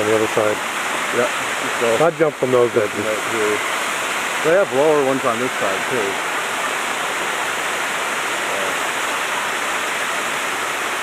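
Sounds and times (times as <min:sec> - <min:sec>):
water rushing over dam: 0:00.0 - 0:11.0.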